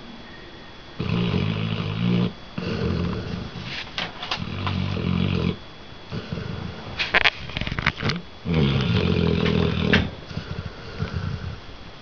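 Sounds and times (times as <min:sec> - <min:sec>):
dog snoring loudly: 0:01.0 - 0:11.7.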